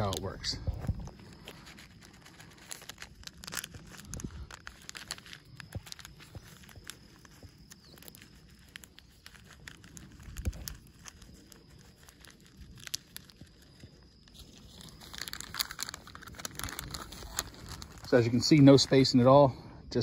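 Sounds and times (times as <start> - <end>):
paper packet crinkling: 0.0 - 19.3
seeds ticking: 0.0 - 19.5.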